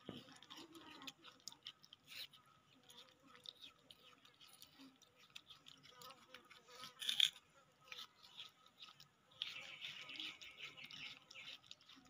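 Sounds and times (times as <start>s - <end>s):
monkeys chewing melon: 0.0s - 12.0s.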